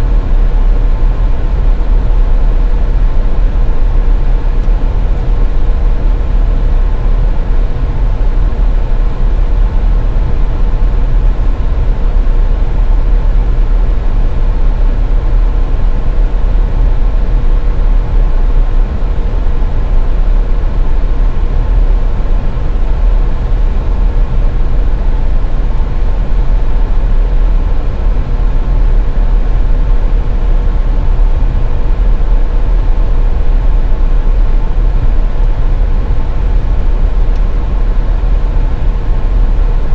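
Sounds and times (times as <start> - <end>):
faint steady hum: 0.0 - 39.9
road and engine rumble: 0.0 - 39.9.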